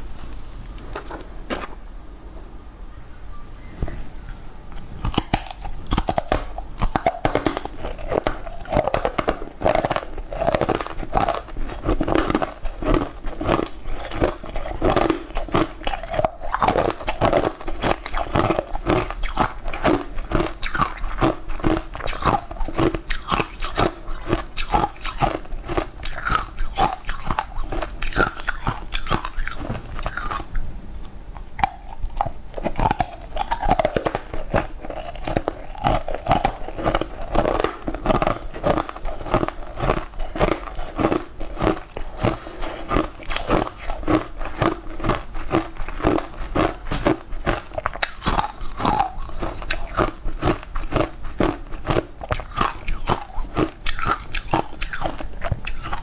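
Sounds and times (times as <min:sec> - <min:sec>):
crunchy biting and chewing: 0:04.8 - 0:56.0.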